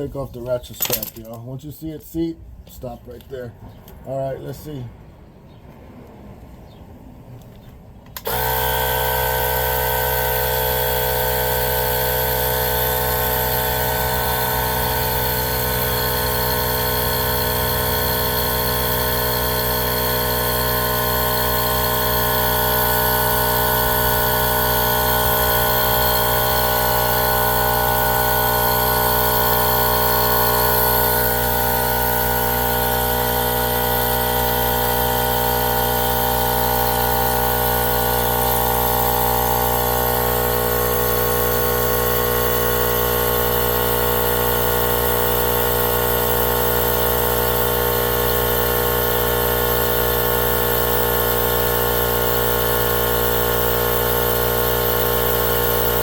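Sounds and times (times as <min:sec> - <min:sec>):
air compressor running: 0:08.1 - 0:56.0.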